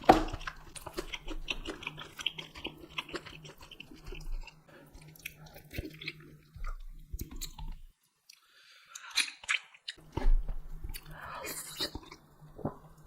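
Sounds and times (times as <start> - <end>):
chewing with crunches: 0.0 - 10.2, 10.8 - 13.0.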